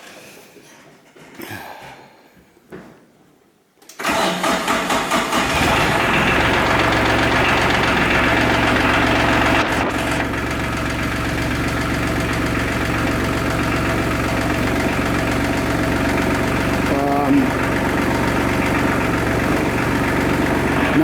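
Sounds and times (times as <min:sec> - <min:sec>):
tractor diesel engine clattering: 0:04.1 - 0:21.0.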